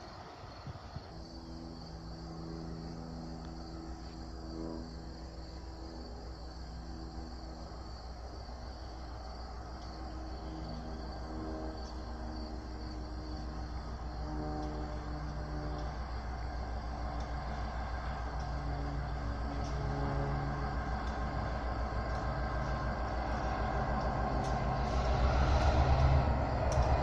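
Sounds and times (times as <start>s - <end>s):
distant train hum: 0.0s - 27.0s
insects chirping: 0.0s - 27.0s.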